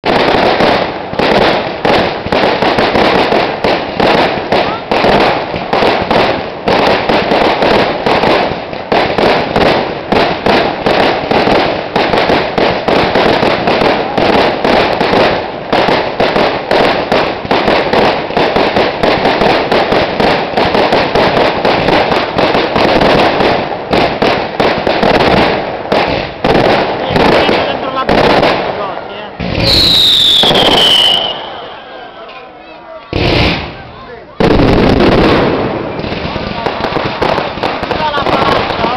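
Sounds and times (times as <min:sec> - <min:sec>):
fireworks bursting with sharp bangs: 0:00.0 - 0:38.9.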